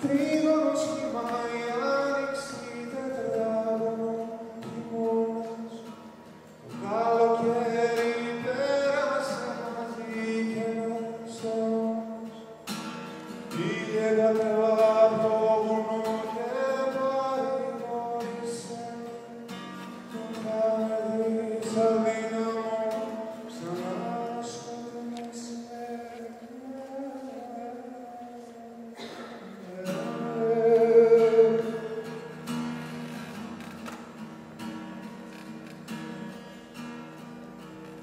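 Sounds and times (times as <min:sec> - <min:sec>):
man singing: 0:00.0 - 0:12.6, 0:13.4 - 0:32.5
acoustic guitar: 0:00.0 - 0:38.0.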